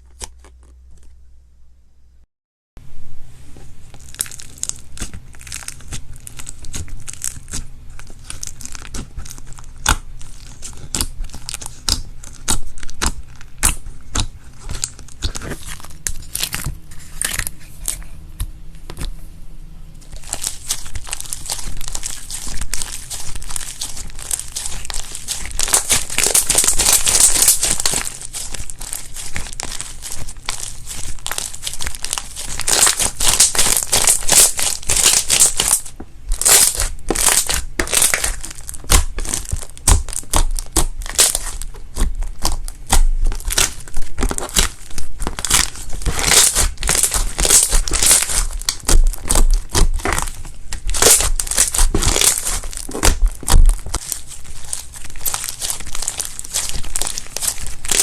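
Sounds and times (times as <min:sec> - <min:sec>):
slime crackling and popping: 0:03.9 - 0:19.1, 0:20.0 - 0:58.0.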